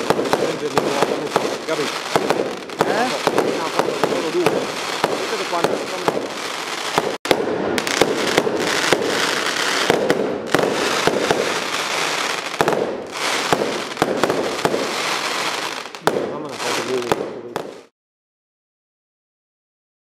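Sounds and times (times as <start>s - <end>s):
fireworks bangs and crackles: 0.0s - 17.9s.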